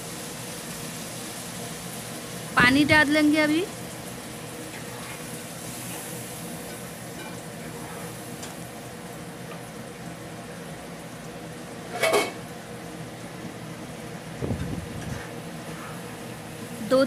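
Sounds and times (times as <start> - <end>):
gravy bubbling and sizzling: 0.0 - 17.0.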